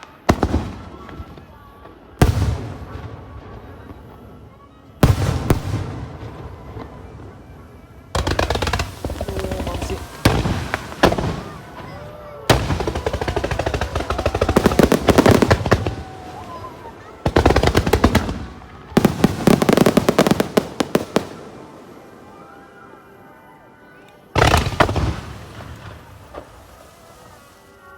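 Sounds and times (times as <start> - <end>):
fireworks bursting and crackling: 0.0 - 22.8, 24.3 - 27.9.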